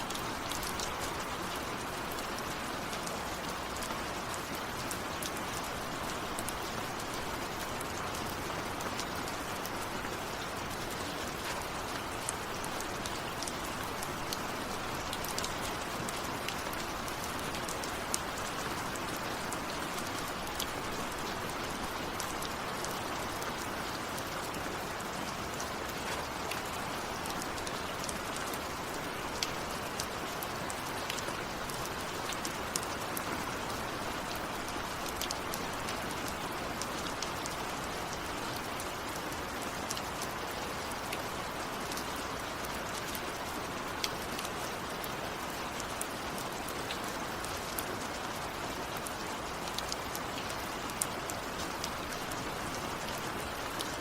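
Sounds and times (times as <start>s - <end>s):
raindrops ticking on surface: 0.0s - 54.0s
steady rain hiss: 0.0s - 54.0s.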